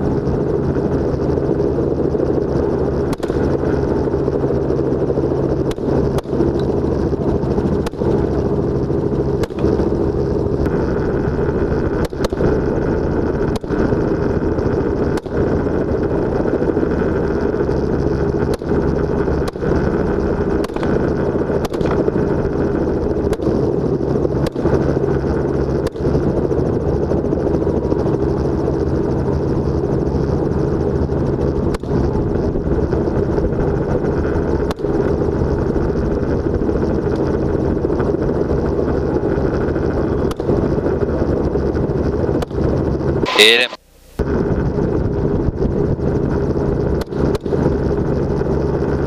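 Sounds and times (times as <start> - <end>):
helicopter droning in flight: 0.0 - 49.0.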